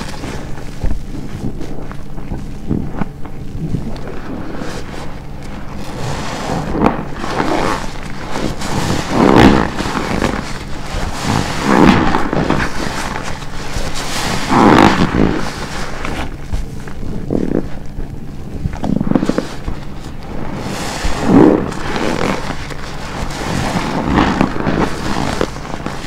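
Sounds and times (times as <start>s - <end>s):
wet sponge squelching: 0.0s - 26.0s.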